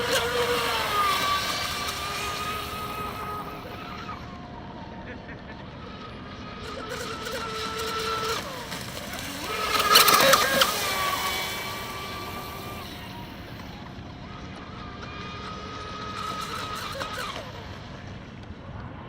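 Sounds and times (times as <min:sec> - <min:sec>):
electric motor whining: 0:00.0 - 0:18.5.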